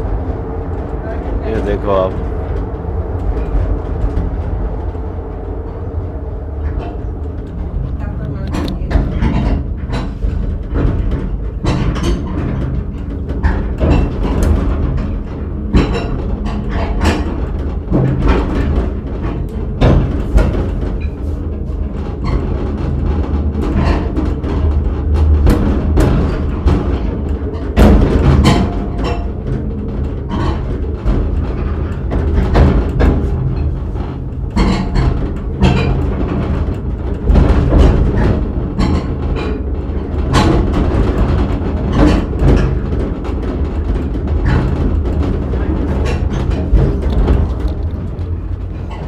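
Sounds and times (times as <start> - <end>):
small train rumbling on track: 0.0 - 49.0
wheels knocking and clattering: 0.0 - 49.0.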